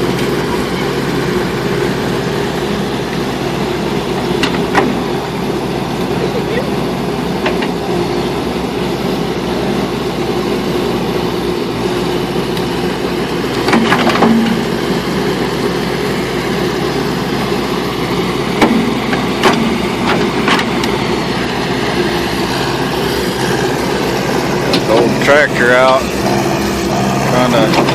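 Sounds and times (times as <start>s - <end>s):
backhoe engine running: 0.0s - 27.9s.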